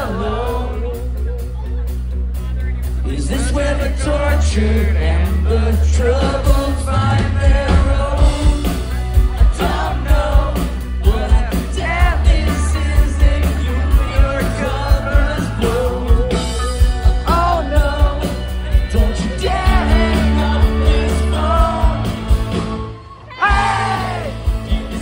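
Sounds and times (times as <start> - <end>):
person singing lead vocal: 0.0 - 1.6, 3.0 - 22.4, 23.3 - 25.0
rock band playing live: 0.0 - 25.0.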